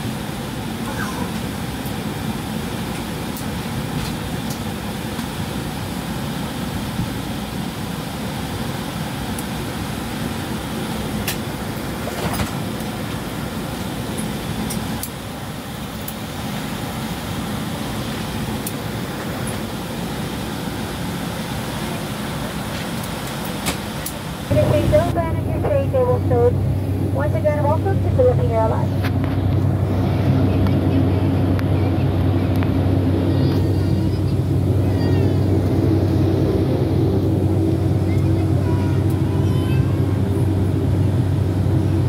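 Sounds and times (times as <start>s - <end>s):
airliner cabin hum: 0.0s - 42.0s
ventilation air rushing: 0.0s - 42.0s.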